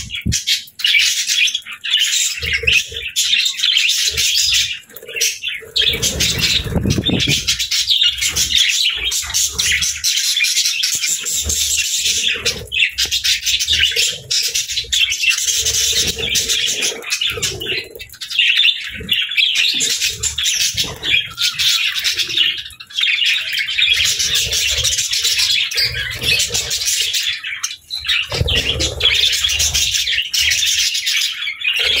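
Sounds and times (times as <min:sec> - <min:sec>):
budgerigars chattering: 0:00.0 - 0:32.0.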